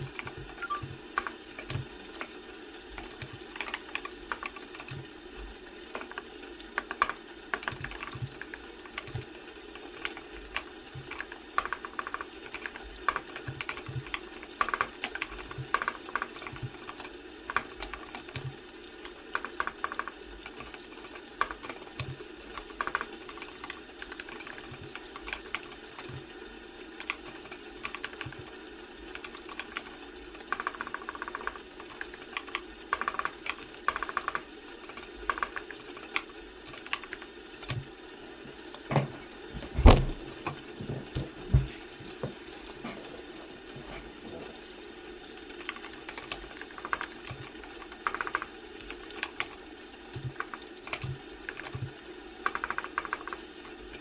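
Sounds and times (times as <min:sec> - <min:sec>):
computer keyboard typing: 0:00.0 - 0:05.1, 0:05.9 - 0:26.2, 0:27.0 - 0:37.9, 0:45.5 - 0:54.0.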